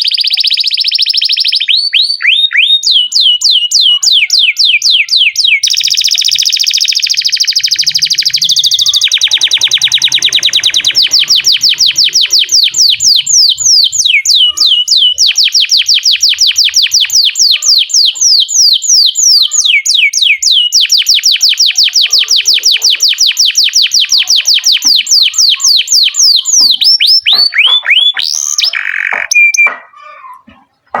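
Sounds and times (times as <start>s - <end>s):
canary singing rapid trills: 0.0s - 31.0s.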